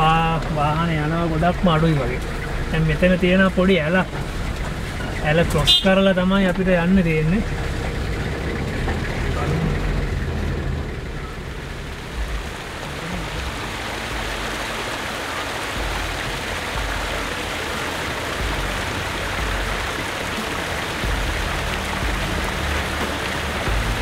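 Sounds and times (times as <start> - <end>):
rushing stream water: 0.0 - 24.0
vehicle engine running low: 0.0 - 24.0.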